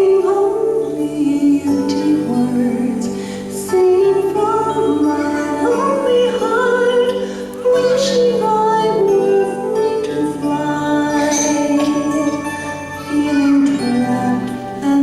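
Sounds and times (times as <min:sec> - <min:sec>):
person singing long notes: 0:00.0 - 0:15.0
sustained instrumental accompaniment: 0:00.0 - 0:15.0.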